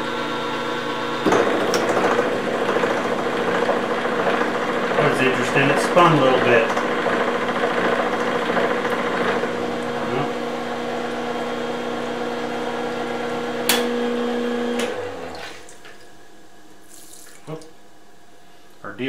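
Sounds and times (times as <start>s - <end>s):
milling machine humming: 0.0s - 16.3s.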